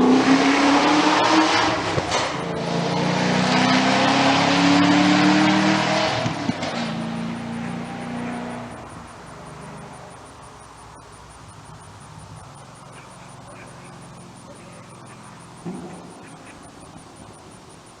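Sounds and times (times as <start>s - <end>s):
car engine accelerating hard: 0.0s - 17.8s.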